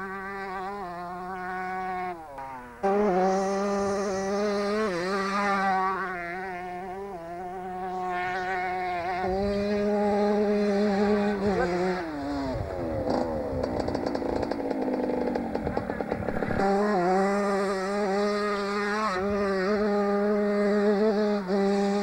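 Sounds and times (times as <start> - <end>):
two-stroke motocross engine: 0.0 - 22.0.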